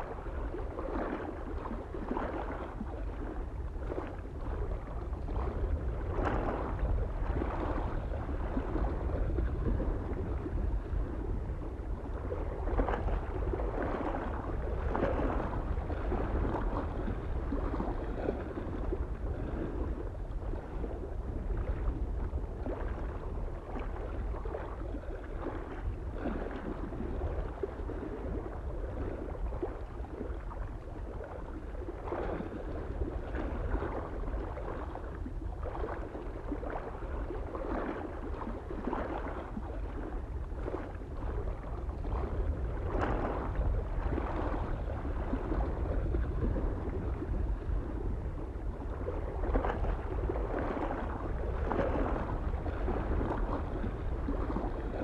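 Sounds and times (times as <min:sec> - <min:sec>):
small waves lapping on shore: 0:00.0 - 0:55.0
wind rumble on microphone: 0:00.0 - 0:55.0.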